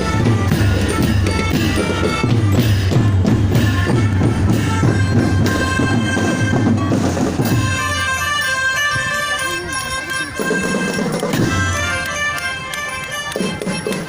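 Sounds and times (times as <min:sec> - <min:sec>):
music with drum beat: 0:00.0 - 0:14.0
sustained melodic notes: 0:00.0 - 0:14.0.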